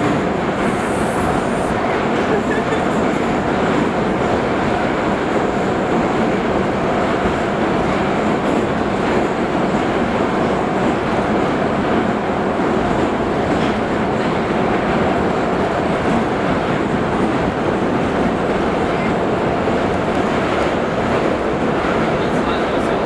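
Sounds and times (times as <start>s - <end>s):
metro train rumbling: 0.0s - 23.0s.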